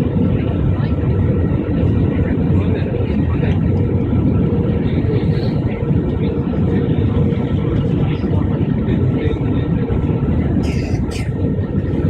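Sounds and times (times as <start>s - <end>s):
jet engine and airflow roar: 0.0s - 12.0s.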